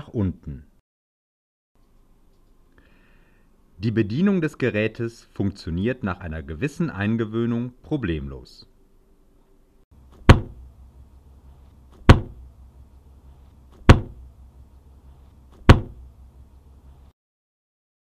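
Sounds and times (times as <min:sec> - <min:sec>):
faint low hum: 0:01.8 - 0:17.1.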